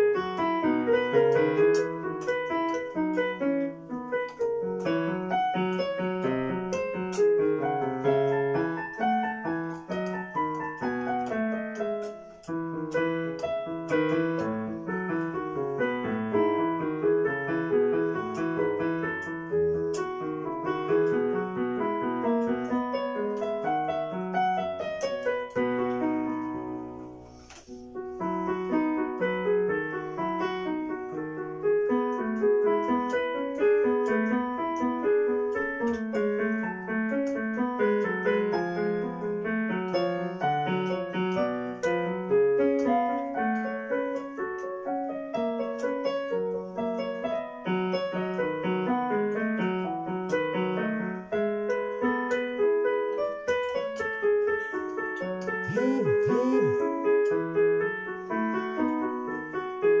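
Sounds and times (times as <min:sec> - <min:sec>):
electronic keyboard piano piece: 0:00.0 - 1:00.0.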